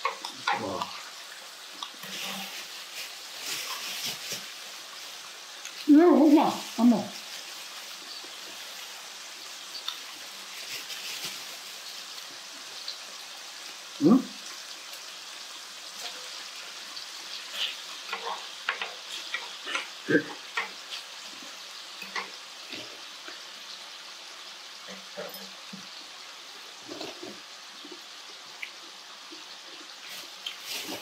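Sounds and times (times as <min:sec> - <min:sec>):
meat sizzling in frying pan: 0:00.0 - 0:31.0.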